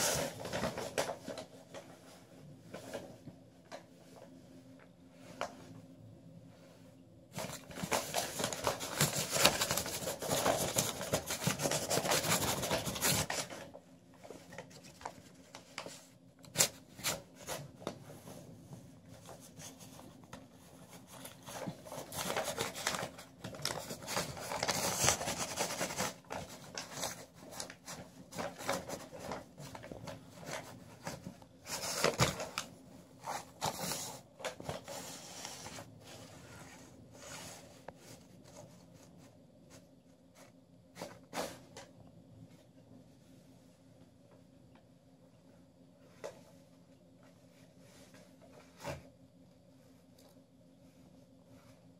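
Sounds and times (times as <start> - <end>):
paper rustling over carpet: 0.0 - 41.9.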